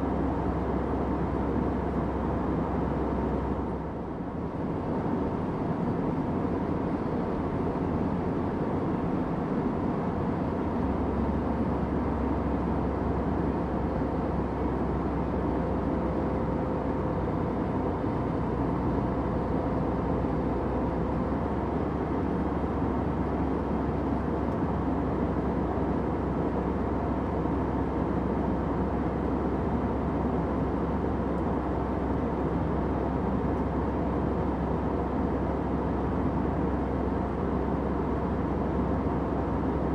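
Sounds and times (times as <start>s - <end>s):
airliner engine hum and air rush: 0.0s - 39.9s.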